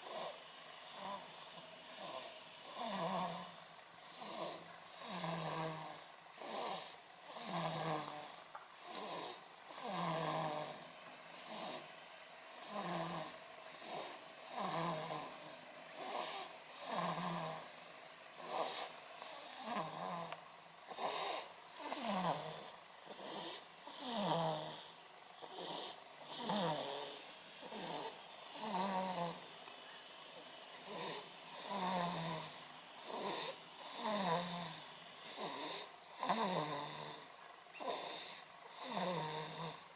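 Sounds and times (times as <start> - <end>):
baby snoring: 0.0 - 11.9, 12.6 - 30.0, 30.7 - 39.9.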